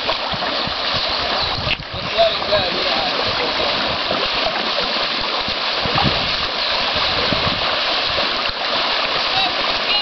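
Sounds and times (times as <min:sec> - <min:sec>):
stream rushing: 0:00.0 - 0:10.0
water splashing around horses' legs: 0:00.0 - 0:10.0.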